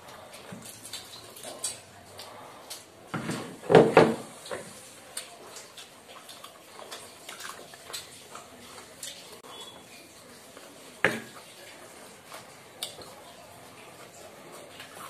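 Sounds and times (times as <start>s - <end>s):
chewing and lip smacks: 0.0s - 3.1s, 4.3s - 15.0s.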